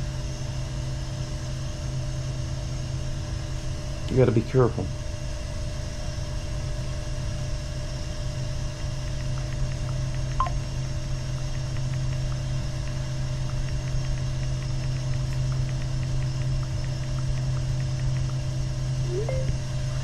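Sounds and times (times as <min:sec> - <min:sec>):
water heater mechanical hum: 0:00.0 - 0:20.0.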